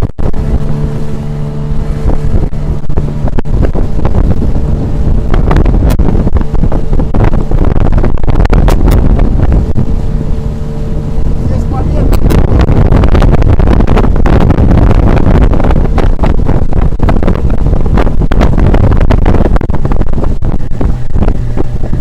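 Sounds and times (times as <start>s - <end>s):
outboard motor running: 0.0s - 22.0s
wind buffeting microphone: 0.0s - 22.0s.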